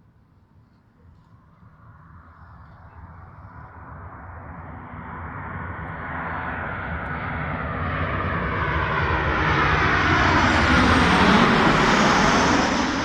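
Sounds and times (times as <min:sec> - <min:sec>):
jet engines landing: 0:01.8 - 0:13.0.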